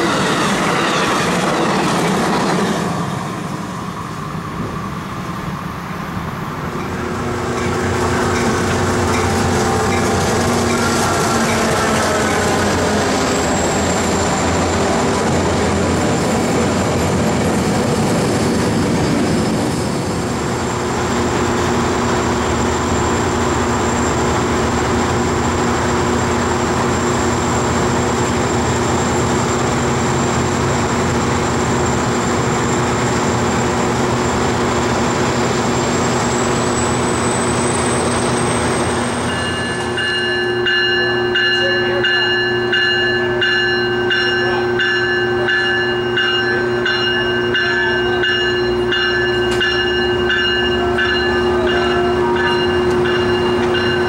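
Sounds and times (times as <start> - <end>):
locomotive engine drone: 0.0 - 54.0
train wheels rumbling on rails: 0.0 - 54.0.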